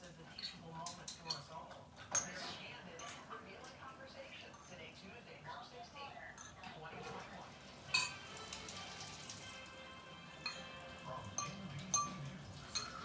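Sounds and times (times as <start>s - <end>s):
cutlery clinking against dishes: 0.0s - 5.1s, 6.3s - 13.0s.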